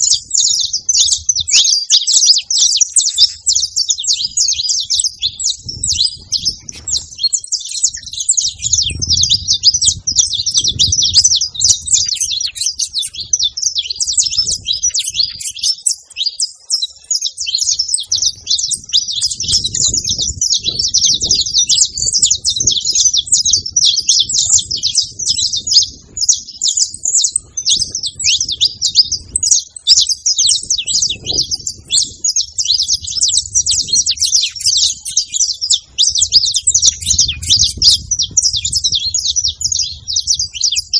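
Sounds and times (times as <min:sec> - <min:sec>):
finches chirping and trilling: 0:00.0 - 0:40.9.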